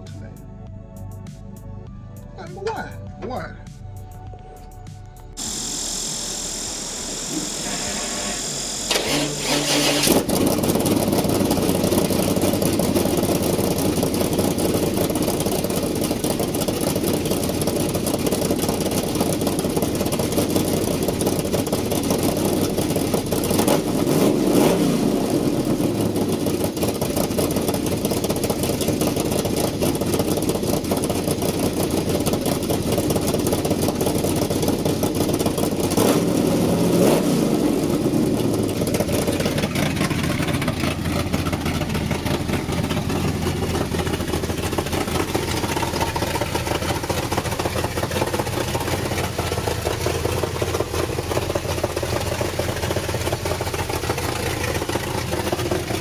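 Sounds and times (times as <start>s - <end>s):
pickup truck engine idling and revving: 3.6s - 56.0s.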